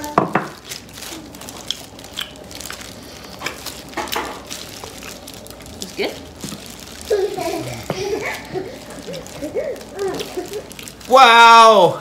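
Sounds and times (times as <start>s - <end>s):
chewing: 0.6s - 11.1s.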